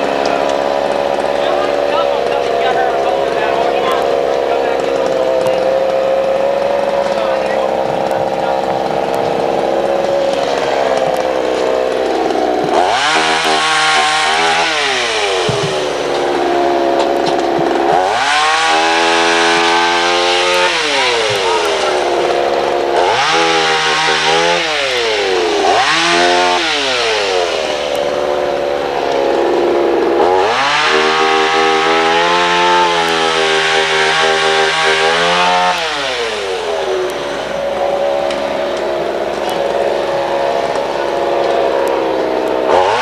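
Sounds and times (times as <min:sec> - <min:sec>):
chainsaw revving and idling: 0:00.0 - 0:43.0.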